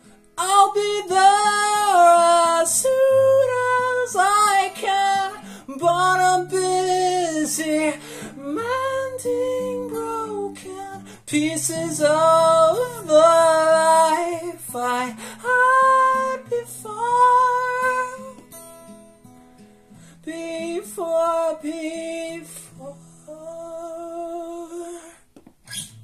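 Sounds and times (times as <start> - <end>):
picked guitar: 0.0 - 26.0.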